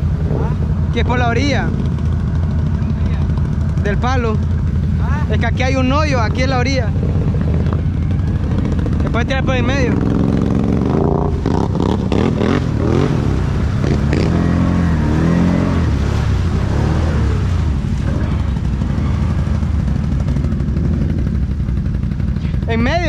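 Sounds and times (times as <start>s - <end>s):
driving through muddy water: 0.0s - 23.0s
quad bike engine revving: 0.0s - 23.0s.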